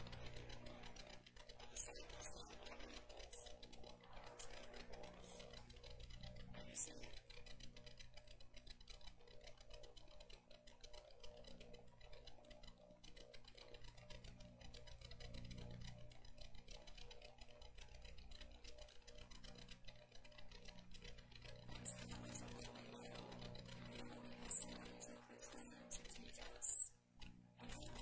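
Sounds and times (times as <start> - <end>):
faint low hum: 0.0 - 28.0
light ticks and clicks: 0.0 - 28.0.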